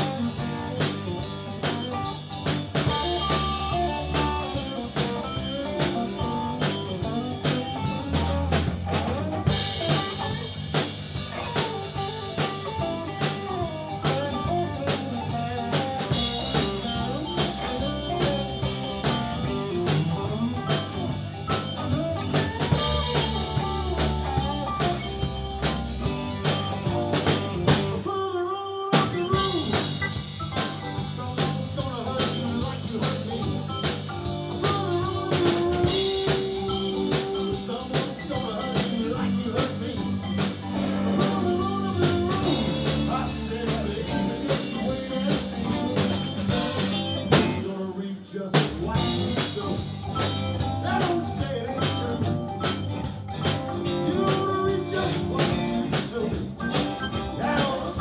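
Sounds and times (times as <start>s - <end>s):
drum kit steady beat: 0.0s - 28.1s, 28.9s - 47.7s, 48.5s - 58.0s
electric bass: 0.0s - 47.8s, 48.4s - 58.0s
electric guitars: 0.0s - 58.0s.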